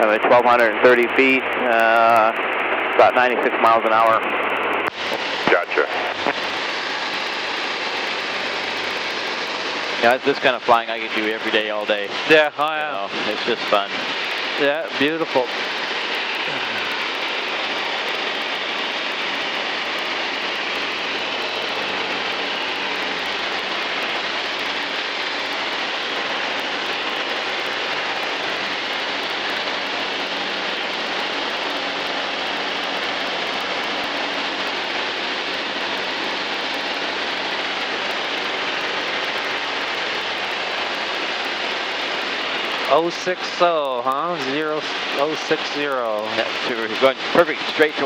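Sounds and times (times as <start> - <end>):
aircraft cabin engine rush: 0.0 - 48.0.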